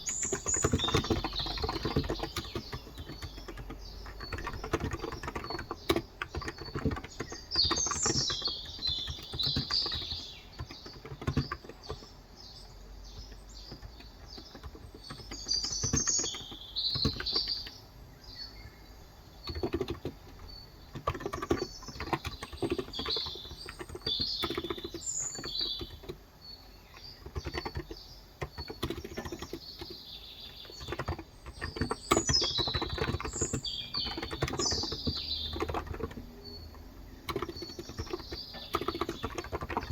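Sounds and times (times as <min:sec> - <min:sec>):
keyboard typing: 0:00.0 - 0:17.8, 0:19.3 - 0:39.9
birds chirping: 0:00.0 - 0:39.9.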